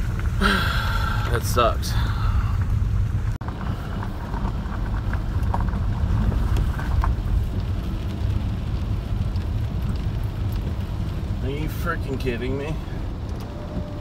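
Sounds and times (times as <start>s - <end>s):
car engine and tyres rumbling: 0.0s - 14.0s
rain tapping on windshield: 0.0s - 14.0s.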